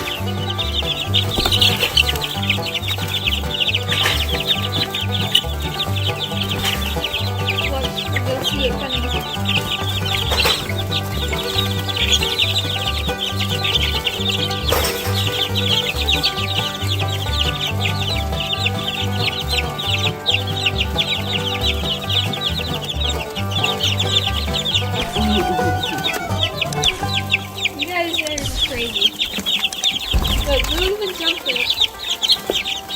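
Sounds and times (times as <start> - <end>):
background music with bass line: 0.0 - 29.0
chicks peeping: 0.0 - 32.9.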